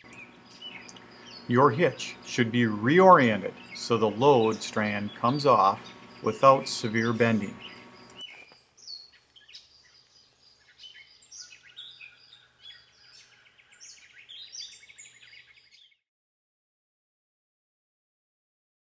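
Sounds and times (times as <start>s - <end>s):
birds chirping and singing: 0.0s - 16.0s.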